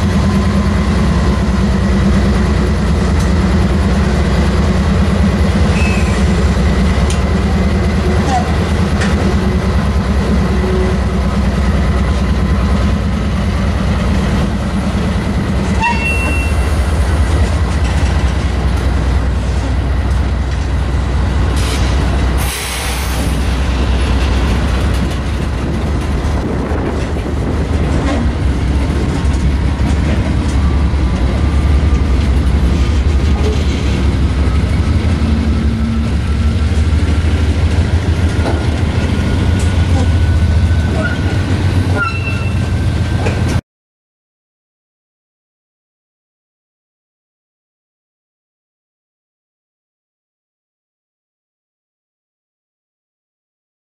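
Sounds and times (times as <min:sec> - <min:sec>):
freight train rolling past: 0:00.0 - 0:43.6.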